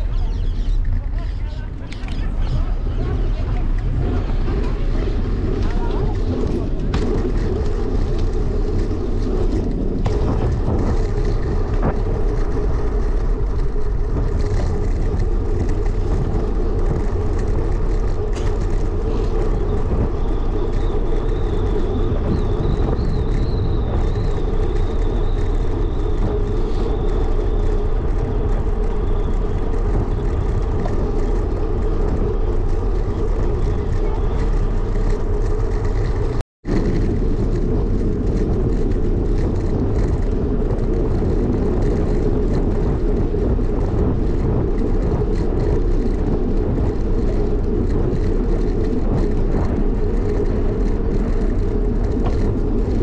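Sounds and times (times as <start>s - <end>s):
city road traffic: 0.0s - 53.0s
wind rumble on microphone: 0.0s - 53.0s.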